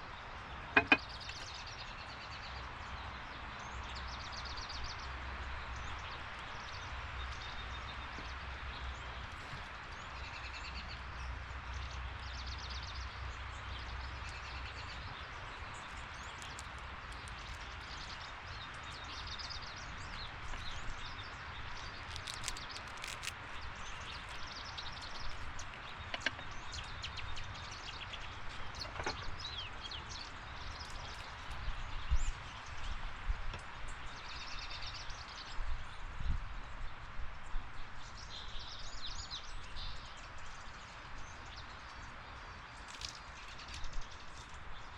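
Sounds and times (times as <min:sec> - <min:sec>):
small birds chirping and trilling: 0:00.0 - 0:44.9.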